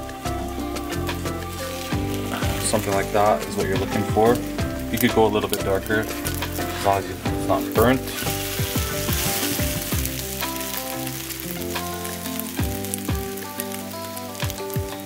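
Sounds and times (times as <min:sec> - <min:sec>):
music with deep bass beat: 0:00.0 - 0:15.0
toast sizzling in butter: 0:00.0 - 0:15.0.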